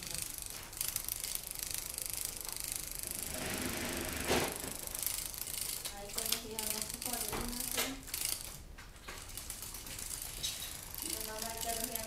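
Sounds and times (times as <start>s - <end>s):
cat toy rattling and whirring: 0.0s - 12.0s.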